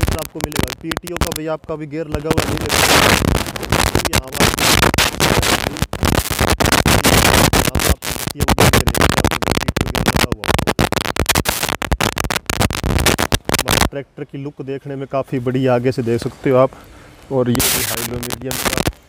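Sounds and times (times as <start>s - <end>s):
rough scratchy microphone noise: 0.0s - 19.0s.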